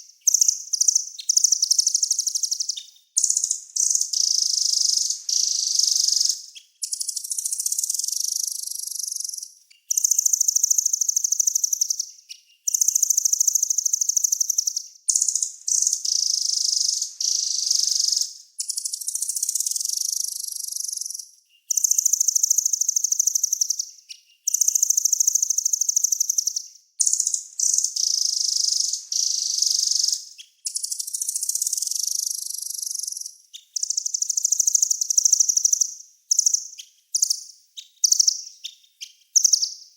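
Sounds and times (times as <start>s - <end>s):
songbird singing rapid trills: 0.0s - 39.9s.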